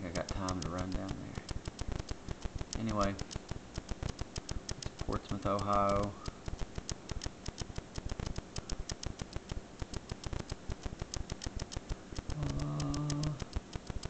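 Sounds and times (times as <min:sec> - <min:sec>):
computer mouse clicking: 0:00.0 - 0:14.0.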